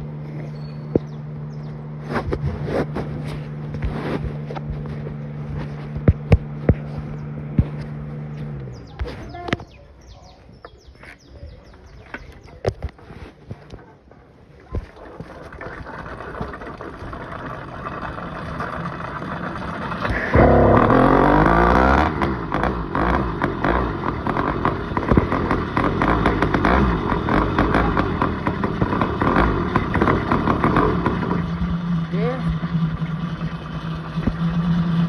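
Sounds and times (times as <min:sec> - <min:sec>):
motorcycle engine running: 0:00.0 - 0:13.8, 0:15.8 - 0:35.0
clattery road noise: 0:00.0 - 0:35.0.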